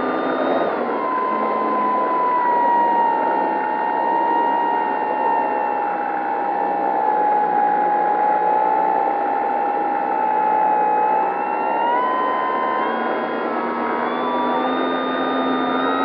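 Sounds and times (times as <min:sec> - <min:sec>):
electric motor and propeller whine: 0:00.0 - 0:16.0.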